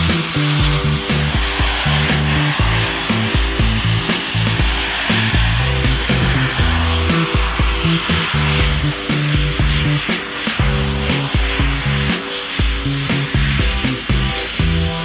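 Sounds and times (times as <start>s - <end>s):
jet turbines roaring: 0.0s - 15.0s
music with pulsing bass: 0.0s - 15.0s.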